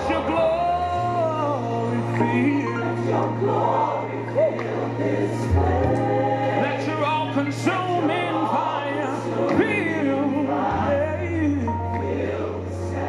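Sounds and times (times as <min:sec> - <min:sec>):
gospel choir singing: 0:00.0 - 0:13.0.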